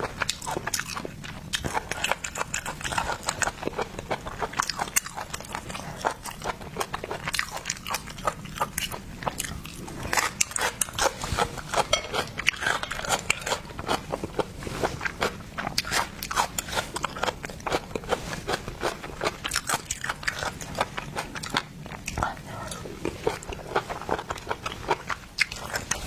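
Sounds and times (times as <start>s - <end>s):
chewing and crunching shells: 0.0s - 26.0s.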